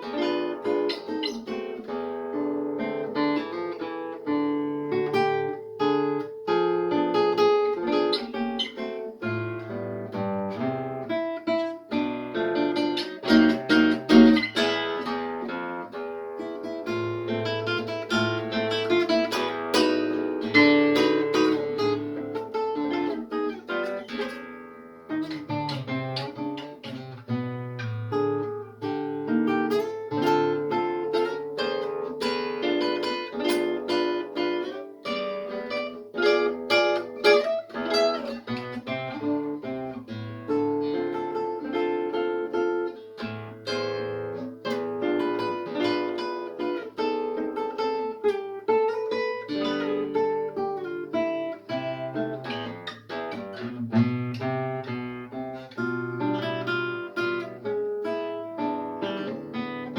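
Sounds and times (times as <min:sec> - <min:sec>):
fingerpicked acoustic guitar: 0:00.0 - 0:59.9.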